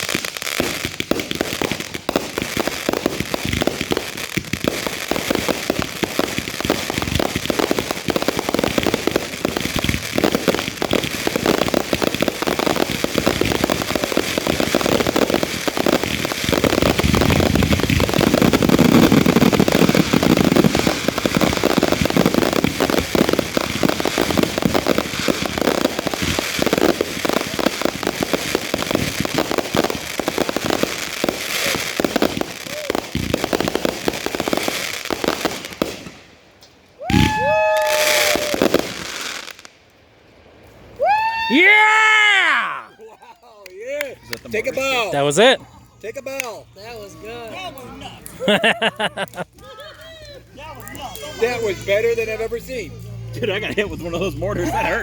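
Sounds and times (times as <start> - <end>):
fireworks banging and crackling: 0.0 - 39.8, 43.6 - 55.0.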